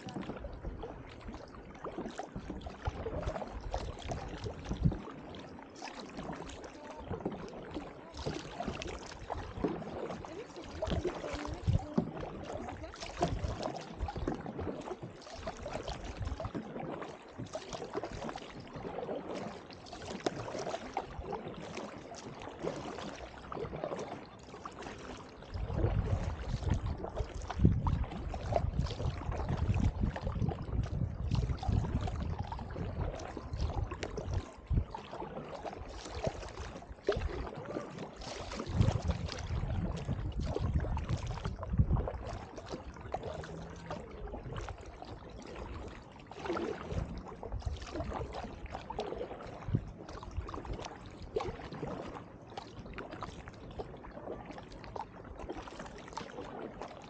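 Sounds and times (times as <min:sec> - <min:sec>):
paddle splashing water: 0:00.0 - 0:57.0
water washing along hull: 0:00.0 - 0:57.0.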